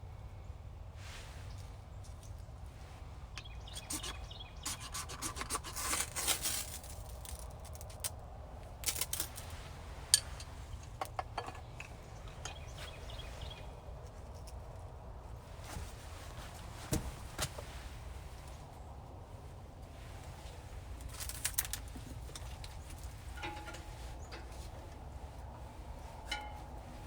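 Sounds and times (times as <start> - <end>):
rustling and scraping of objects: 1.0 - 27.0.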